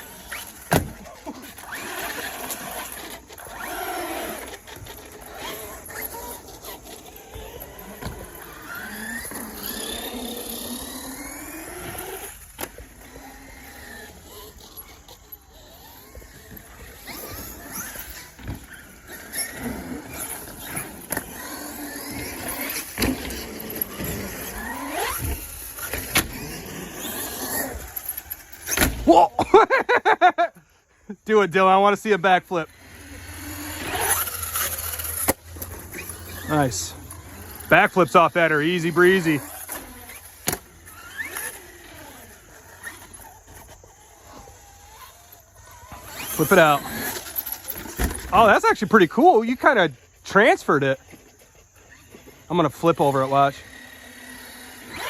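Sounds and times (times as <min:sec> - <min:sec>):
electric toy truck motor whining: 0:00.0 - 0:30.8, 0:32.4 - 0:55.0.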